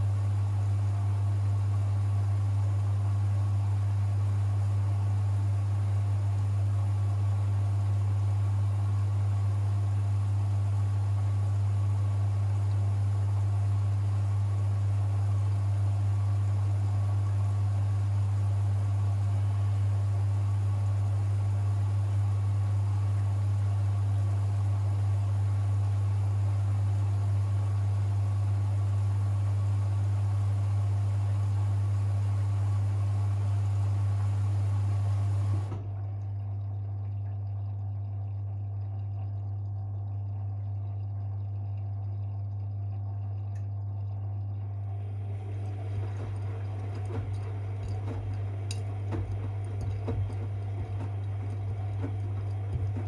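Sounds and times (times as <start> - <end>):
washing machine hum: 0.0 - 53.0.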